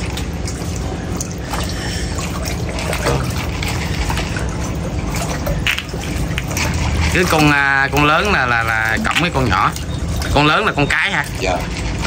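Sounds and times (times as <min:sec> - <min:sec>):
small drips and clicks: 0:00.0 - 0:12.0
water trickling and splashing: 0:00.0 - 0:12.0.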